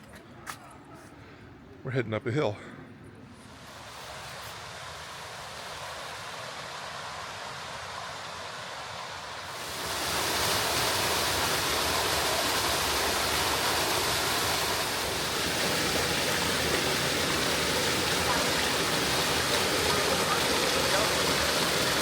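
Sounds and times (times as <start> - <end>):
rushing water: 3.4 - 22.0.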